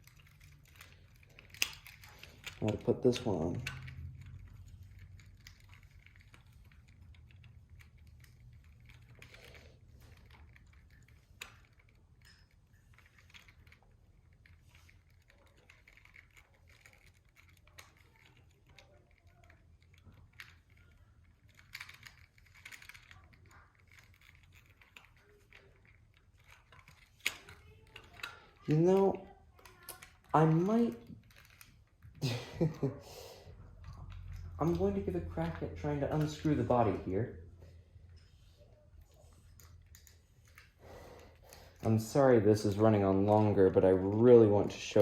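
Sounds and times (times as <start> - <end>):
small plastic clicks and rubbing: 0.0 - 32.2, 33.6 - 42.1.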